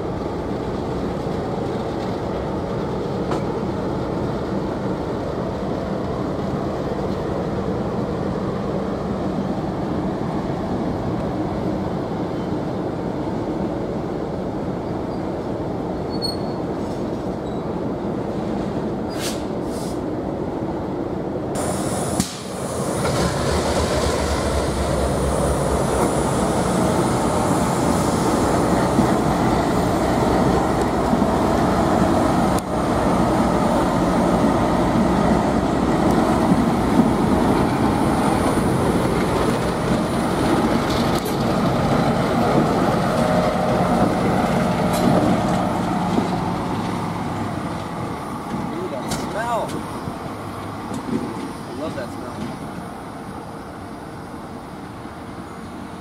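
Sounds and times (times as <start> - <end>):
diesel locomotive drone: 0.0 - 56.0
rail and wheel noise: 0.0 - 56.0.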